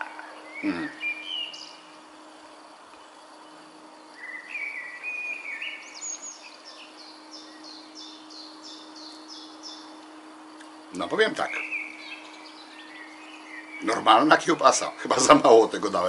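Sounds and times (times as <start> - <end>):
faint steady hum: 0.0 - 16.0
songbirds singing: 0.0 - 16.0.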